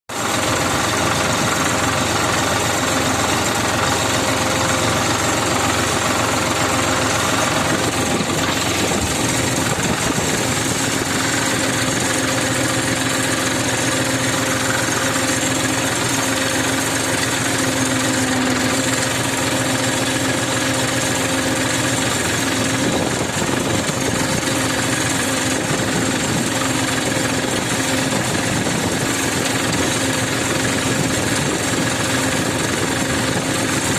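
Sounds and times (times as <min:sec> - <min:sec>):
tractor engine knocking: 0:00.1 - 0:33.9.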